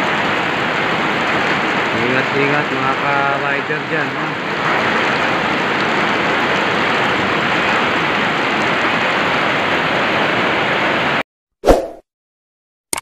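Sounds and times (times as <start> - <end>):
heavy rain pouring: 0.0 - 11.2.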